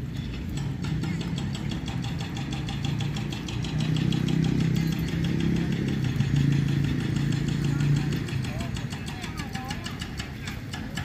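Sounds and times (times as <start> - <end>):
engine idling: 0.0 - 11.0
fast regular ticking: 0.0 - 11.0.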